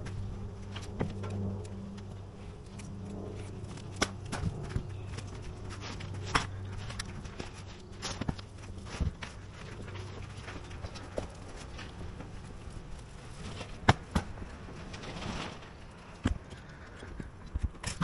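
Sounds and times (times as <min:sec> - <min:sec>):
steady low hum: 0:00.0 - 0:18.0
footsteps on a roof: 0:03.1 - 0:17.8.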